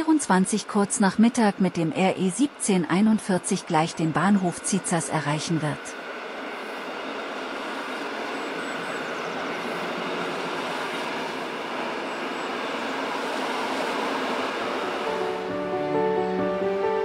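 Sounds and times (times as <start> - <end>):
train wheels rolling on track: 0.0 - 17.0.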